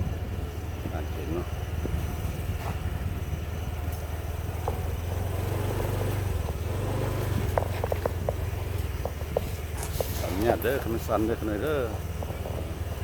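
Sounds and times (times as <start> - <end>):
motorcycle engine running: 0.0 - 13.0
road and wind rumble: 0.0 - 13.0.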